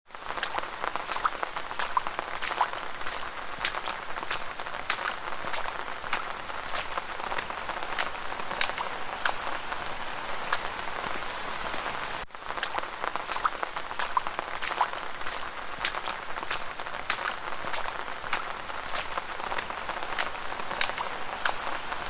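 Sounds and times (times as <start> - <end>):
rain falling on wet ground: 0.1 - 22.0
drips and splashes: 0.2 - 22.0.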